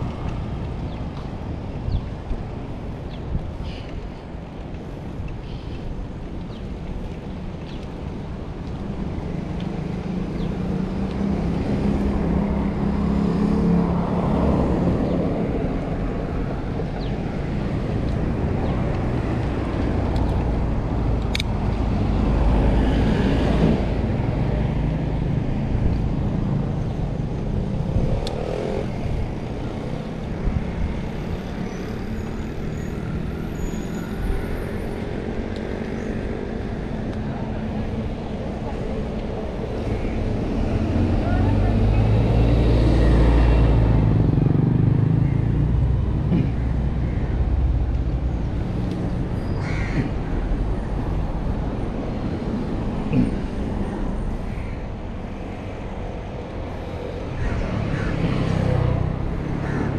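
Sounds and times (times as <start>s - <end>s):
road and traffic noise: 0.0s - 59.9s.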